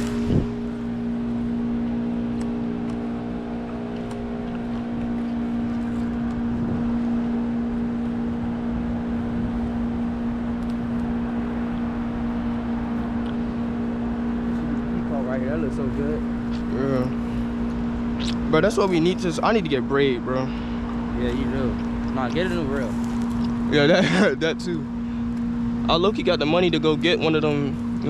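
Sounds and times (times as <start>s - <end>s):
steady motor hum: 0.0s - 28.0s.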